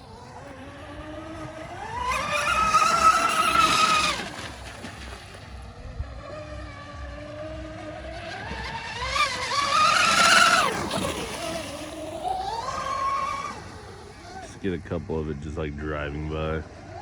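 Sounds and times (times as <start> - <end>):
rc boat motor whine: 0.0 - 17.0
water rushing under hull: 0.0 - 17.0.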